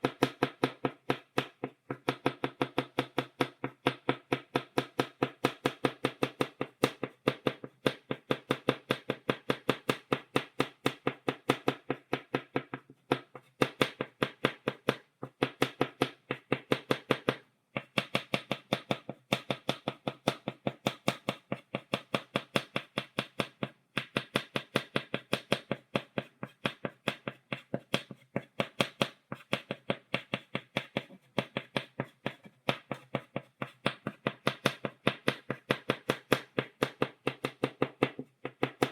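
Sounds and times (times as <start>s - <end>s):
chalk tapping on blackboard: 0.0s - 38.9s.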